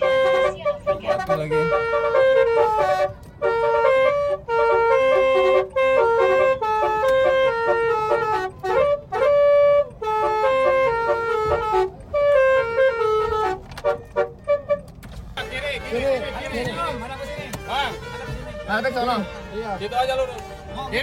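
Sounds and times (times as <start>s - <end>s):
musical car horn tune: 0.0s - 21.0s.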